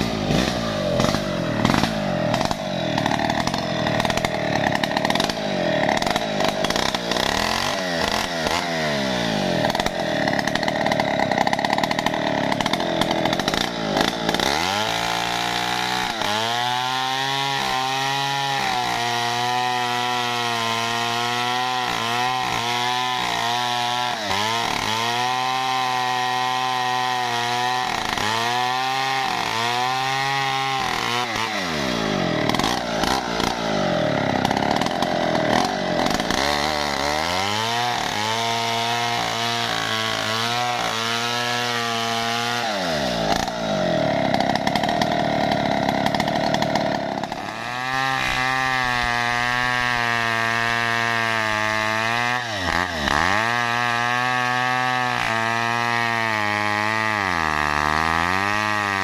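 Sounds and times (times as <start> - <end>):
chainsaw cutting tree trunk: 0.0 - 59.0.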